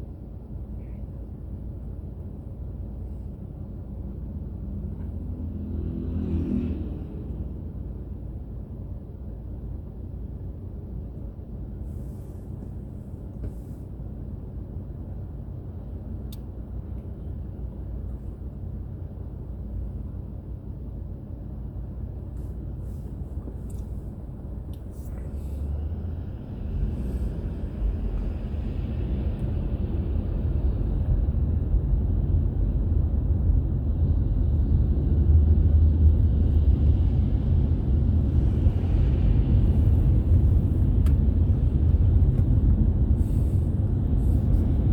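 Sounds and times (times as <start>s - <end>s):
car engine and tyre rumble: 0.0s - 44.9s.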